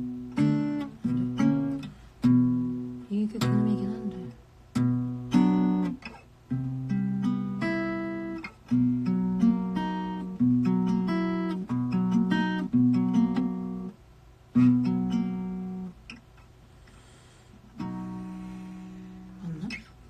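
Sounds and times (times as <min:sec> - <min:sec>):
acoustic guitar strumming chords: 0:00.0 - 0:16.2, 0:17.6 - 0:19.8.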